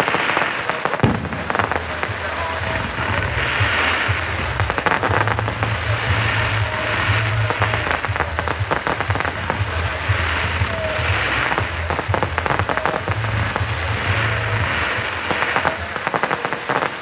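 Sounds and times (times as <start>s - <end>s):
fireworks crackling and popping: 0.0s - 17.0s
low rumble: 1.0s - 15.3s.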